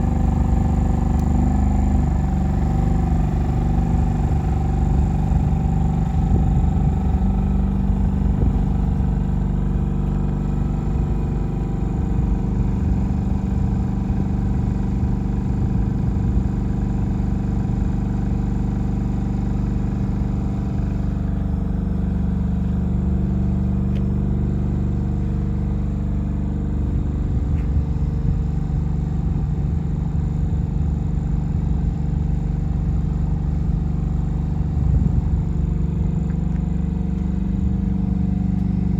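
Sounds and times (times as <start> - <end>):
diesel generator engine running: 0.0 - 38.9.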